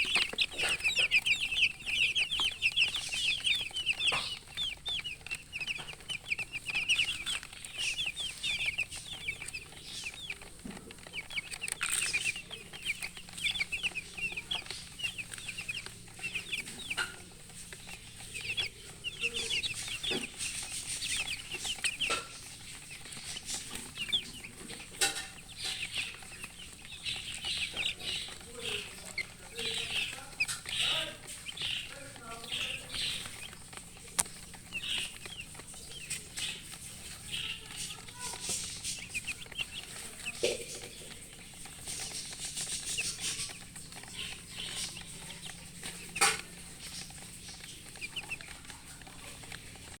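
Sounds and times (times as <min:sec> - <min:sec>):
chicks peeping: 0:00.0 - 0:50.0
hen clucking: 0:00.0 - 0:50.0.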